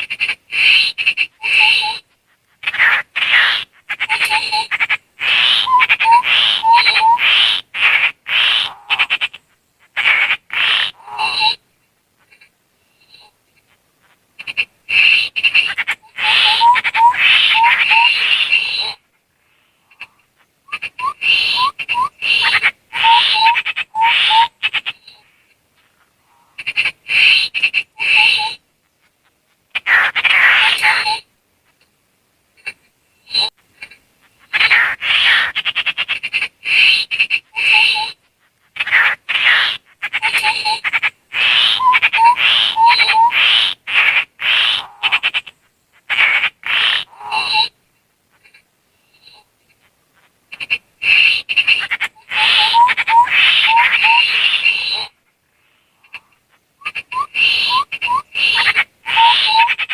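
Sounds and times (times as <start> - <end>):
raspy bird calls: 0.0 - 32.0, 32.6 - 59.9.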